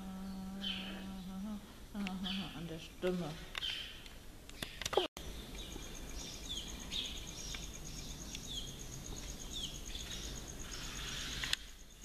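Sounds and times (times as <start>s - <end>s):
birds chirping: 0.0s - 12.0s
low background hum: 0.0s - 12.0s.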